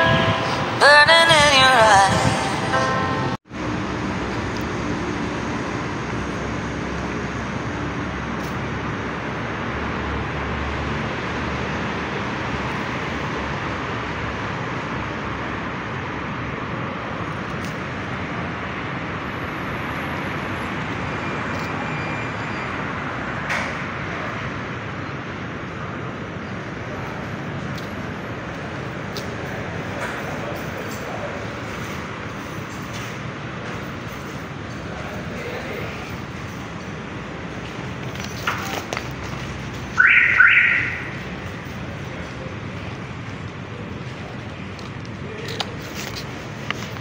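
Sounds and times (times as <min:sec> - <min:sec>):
rushing outdoor background noise: 0:00.0 - 0:47.0.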